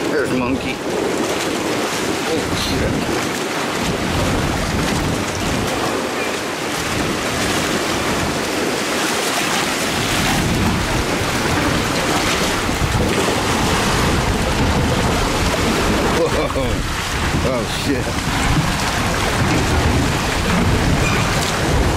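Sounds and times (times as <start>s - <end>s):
choppy water against seawall: 0.0s - 21.9s
wind across microphone: 0.0s - 21.9s.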